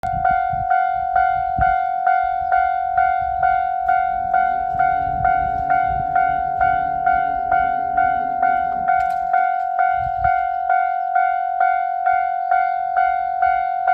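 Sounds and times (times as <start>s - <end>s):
level-crossing warning bell ringing: 0.0s - 13.9s.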